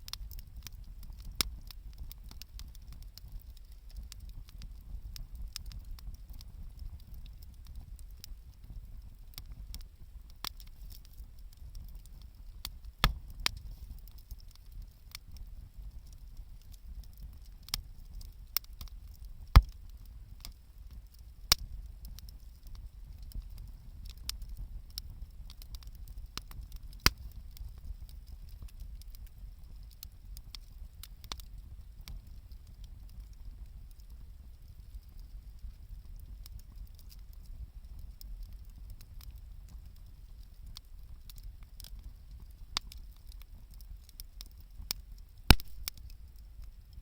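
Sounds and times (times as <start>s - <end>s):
bonfire crackling and popping: 0.0s - 47.0s.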